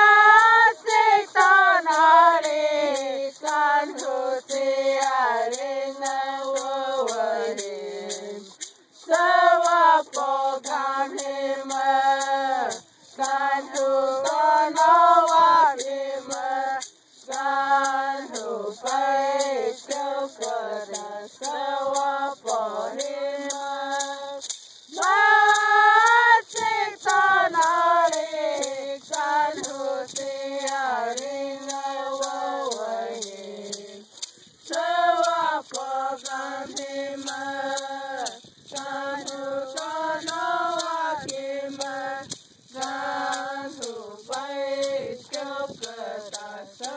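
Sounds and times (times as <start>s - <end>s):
person singing in a high voice: 0.0s - 34.1s, 34.7s - 46.9s.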